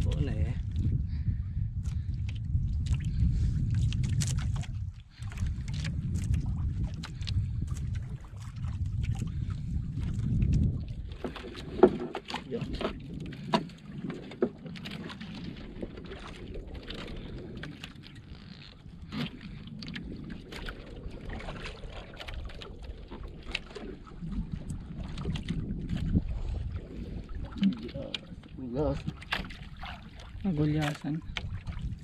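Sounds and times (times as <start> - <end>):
water noise: 0.0 - 32.0
wind: 0.0 - 32.0.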